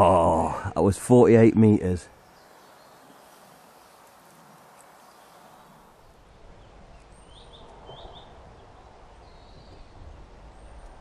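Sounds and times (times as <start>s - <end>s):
bird chirps: 2.1s - 11.0s.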